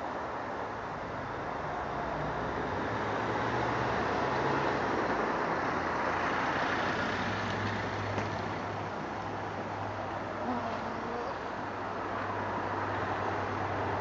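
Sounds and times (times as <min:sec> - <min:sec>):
road vehicle passing: 0:00.7 - 0:14.0.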